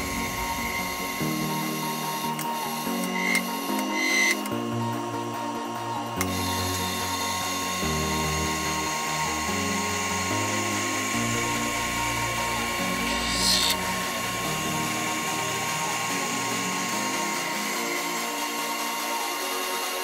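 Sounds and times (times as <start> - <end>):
background music: 0.0 - 20.0
lathe whining and hissing: 0.0 - 20.0.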